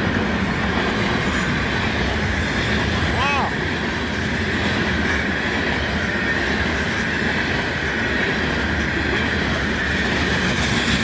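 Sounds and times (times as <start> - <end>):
freight train rumble and wheel clatter: 0.0 - 11.0.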